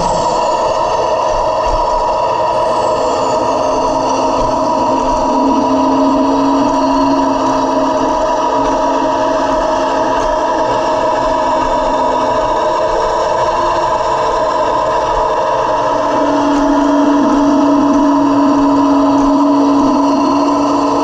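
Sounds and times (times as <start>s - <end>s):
toy tank drive whine: 0.0s - 21.0s.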